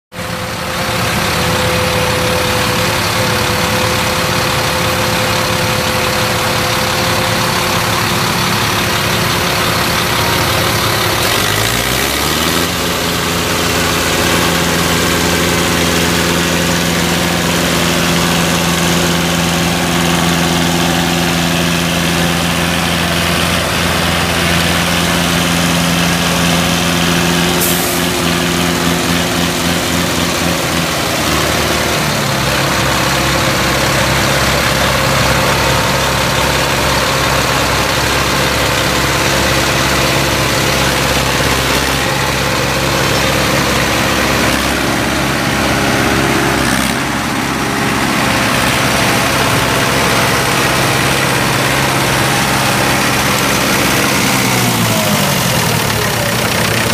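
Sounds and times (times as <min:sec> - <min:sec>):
tractor diesel engine idling: 0:00.1 - 0:56.9.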